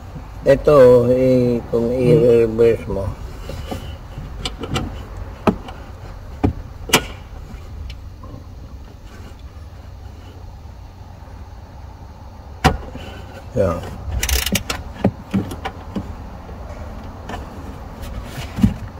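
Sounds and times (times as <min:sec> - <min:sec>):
steady low rumble: 0:00.0 - 0:12.6, 0:13.2 - 0:18.3.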